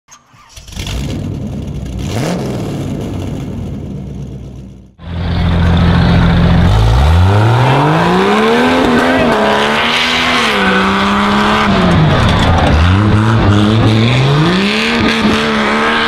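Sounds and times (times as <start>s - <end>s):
truck engine revving: 0.7s - 16.0s
loud engine-like intro sound: 0.8s - 16.0s.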